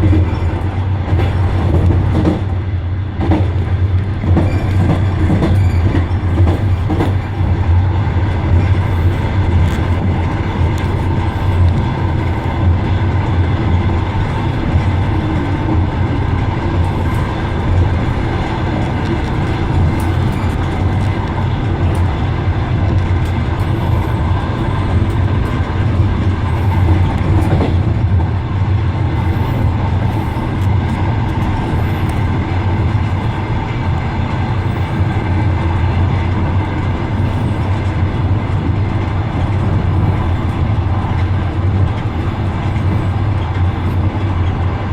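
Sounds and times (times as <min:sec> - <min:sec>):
train wheels rumbling on track: 0:00.0 - 0:44.9
wheels clacking over rail joints: 0:03.2 - 0:44.9.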